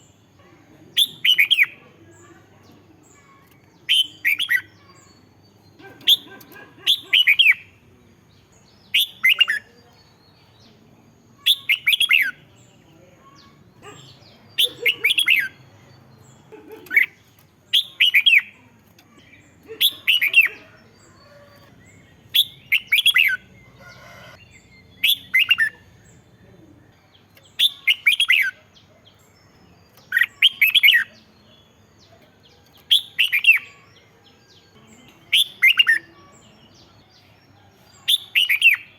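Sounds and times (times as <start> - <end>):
bird singing warbled phrases: 0.0 - 38.9.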